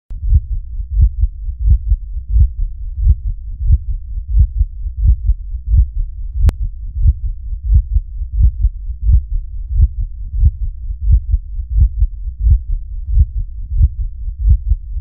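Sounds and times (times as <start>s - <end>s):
heartbeat thumps: 0.2s - 15.0s.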